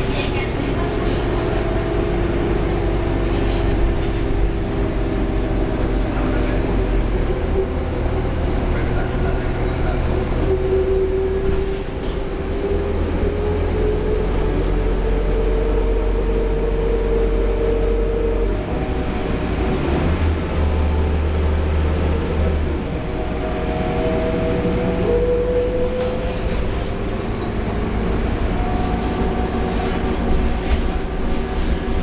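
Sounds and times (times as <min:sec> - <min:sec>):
bus diesel engine rumble: 0:00.0 - 0:32.0.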